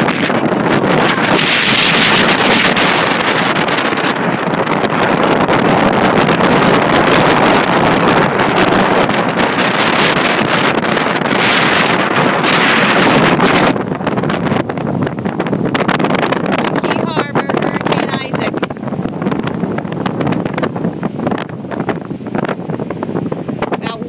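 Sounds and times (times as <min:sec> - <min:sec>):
wind blowing across microphone: 0:00.0 - 0:24.0.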